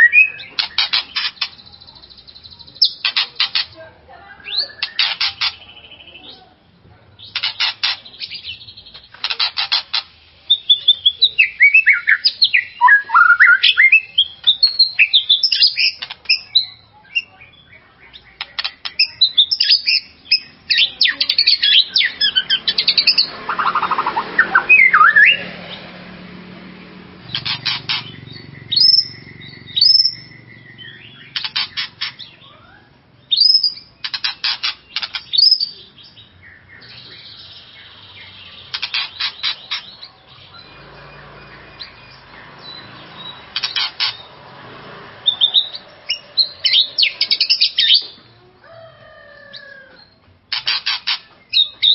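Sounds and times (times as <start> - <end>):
songbird whistling and chattering: 0.0 - 6.3, 7.2 - 25.6, 27.2 - 44.4, 45.2 - 48.2, 49.6 - 51.9.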